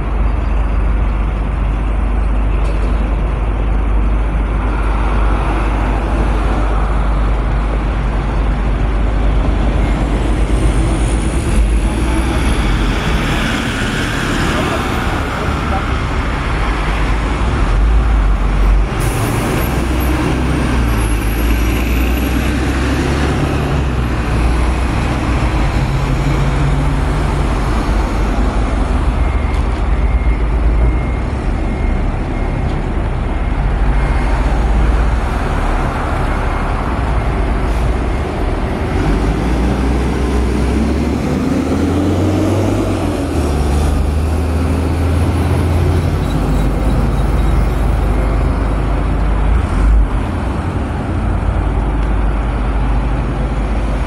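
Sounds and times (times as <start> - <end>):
cars and truck passing: 0.0 - 54.0.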